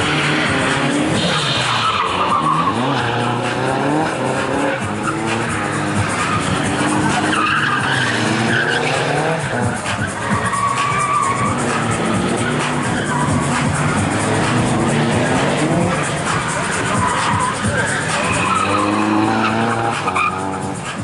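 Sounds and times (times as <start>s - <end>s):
car engines revving: 0.0s - 21.0s
music: 0.0s - 21.0s
tyres squealing: 0.2s - 20.9s.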